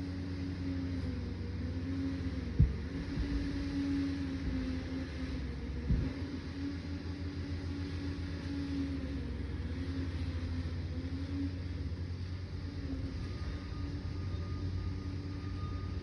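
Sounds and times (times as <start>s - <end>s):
dozer diesel engine droning: 0.0s - 16.0s.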